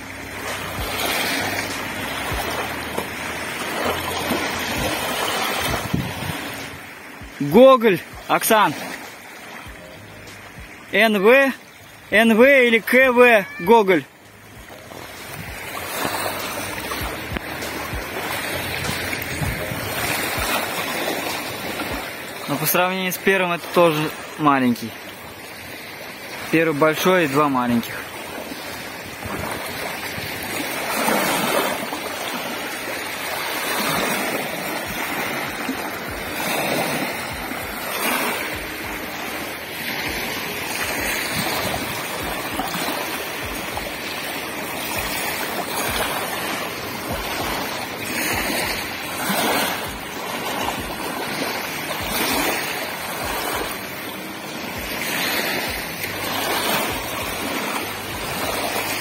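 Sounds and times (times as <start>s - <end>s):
waves lapping on shore: 0.0s - 59.0s.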